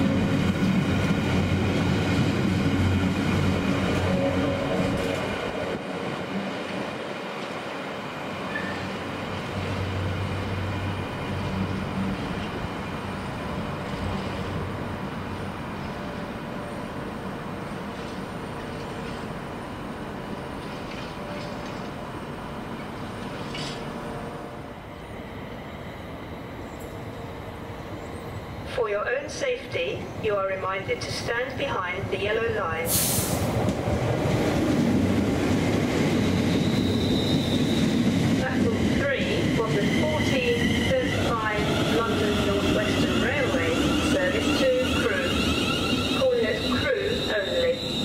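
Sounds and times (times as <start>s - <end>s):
humming tones from train: 0.0s - 48.0s
train wheels rumbling on rails: 0.0s - 48.0s.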